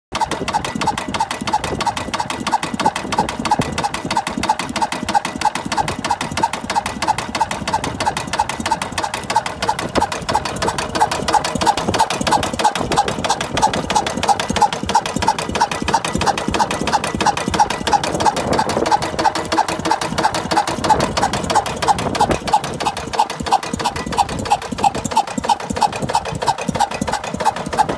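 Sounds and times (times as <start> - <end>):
stationary diesel engine running: 0.1 - 27.9
valve-gear clatter: 0.1 - 27.9.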